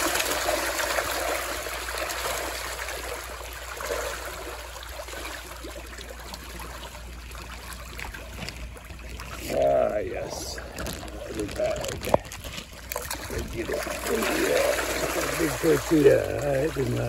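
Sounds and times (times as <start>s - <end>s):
fish thrashing in water: 0.0s - 17.0s.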